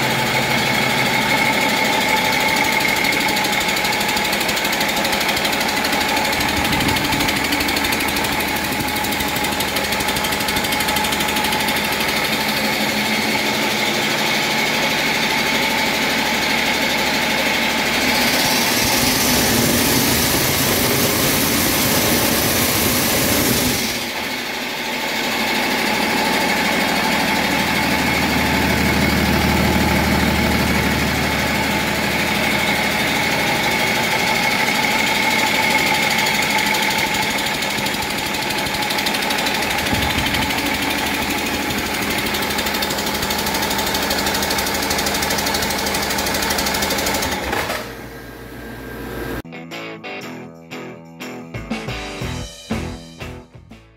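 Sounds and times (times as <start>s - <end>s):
steady whine: 0.0s - 43.8s
diesel engine running: 0.0s - 49.4s.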